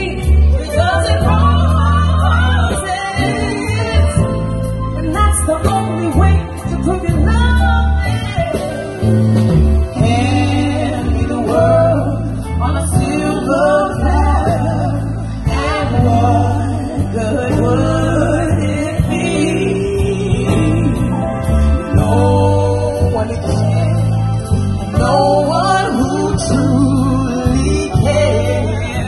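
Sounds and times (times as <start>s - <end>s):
women singing into microphones: 0.0s - 9.2s, 9.9s - 29.0s
electric guitar: 0.0s - 29.0s
electric keyboard: 0.0s - 29.0s.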